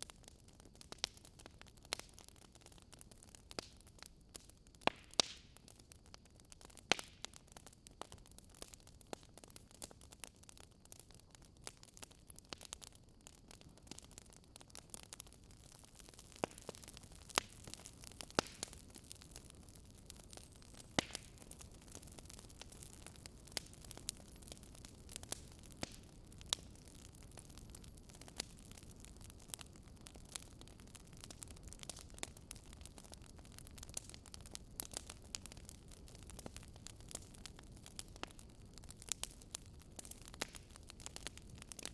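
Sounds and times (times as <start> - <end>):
fire crackling and popping: 0.0 - 41.9
soft steady fire hiss: 0.0 - 41.9.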